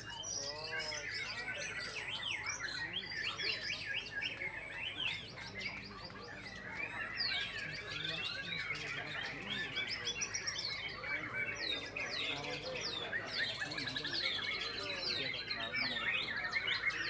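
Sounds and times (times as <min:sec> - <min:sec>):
other songbirds singing: 0:00.0 - 0:17.0
songbird singing: 0:00.0 - 0:17.0.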